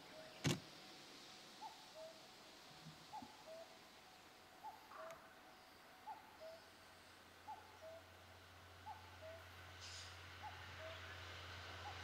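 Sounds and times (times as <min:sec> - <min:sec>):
background hiss: 0:00.0 - 0:11.9.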